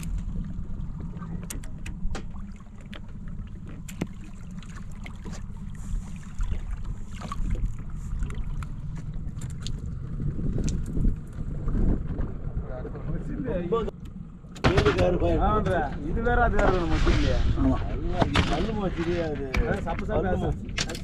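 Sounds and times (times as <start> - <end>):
low rumble of wind and boat: 0.0 - 21.0.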